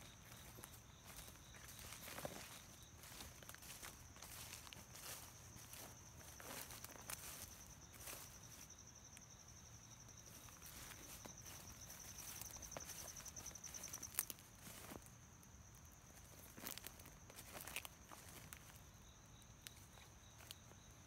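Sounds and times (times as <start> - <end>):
footsteps through dry grass: 0.0 - 8.8, 10.1 - 15.2, 16.0 - 20.8
insect trill: 0.0 - 21.0.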